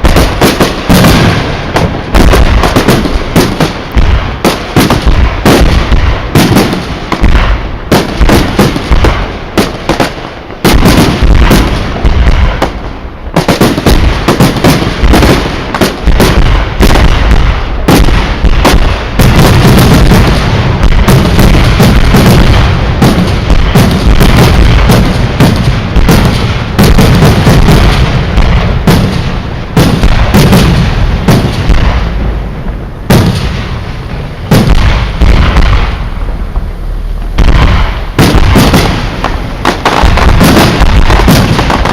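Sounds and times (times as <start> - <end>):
fireworks bangs and booms: 0.0 - 41.9.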